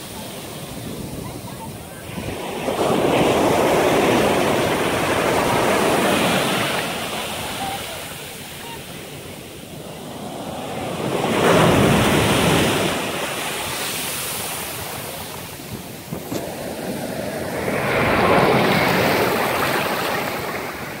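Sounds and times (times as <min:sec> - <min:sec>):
waves crashing on beach: 0:00.0 - 0:21.0.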